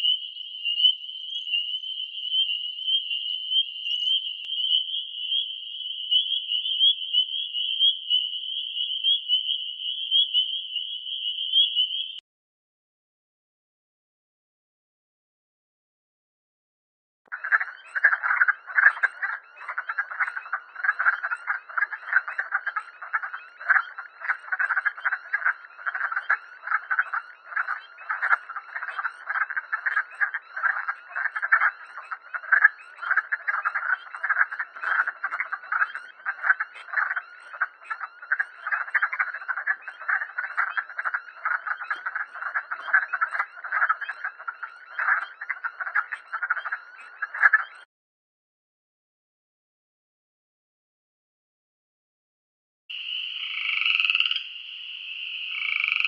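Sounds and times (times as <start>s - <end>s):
frogs clucking chorus: 0.0s - 12.2s, 17.3s - 47.9s, 52.9s - 56.0s.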